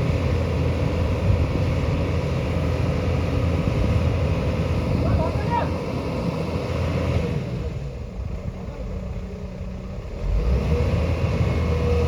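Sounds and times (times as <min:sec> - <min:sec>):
heavy machine engine rumbling: 0:00.0 - 0:12.0.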